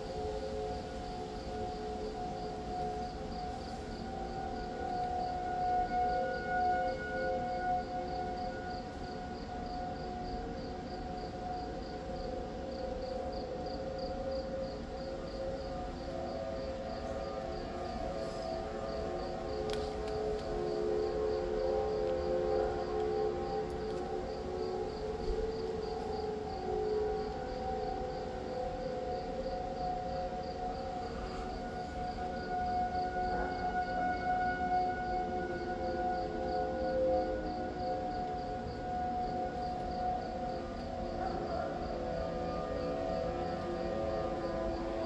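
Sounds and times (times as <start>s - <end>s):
distant storm warning siren: 0.0s - 45.0s
night insects chirping: 0.0s - 45.0s.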